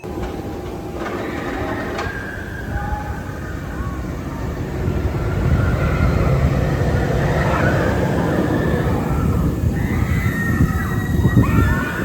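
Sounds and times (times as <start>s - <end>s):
faint high squeal: 0.0s - 12.0s
roller coaster rumbling on track: 0.0s - 12.0s.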